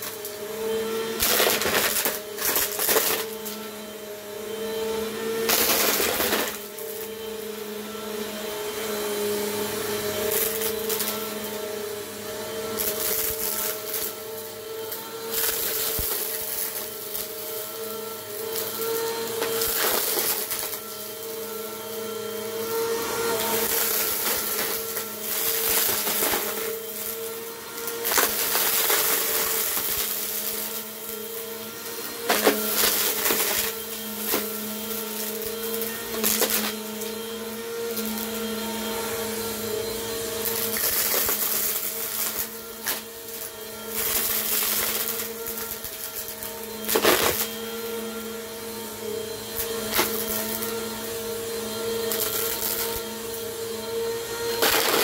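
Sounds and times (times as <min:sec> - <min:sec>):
vacuum cleaner motor drone: 0:00.0 - 0:55.0.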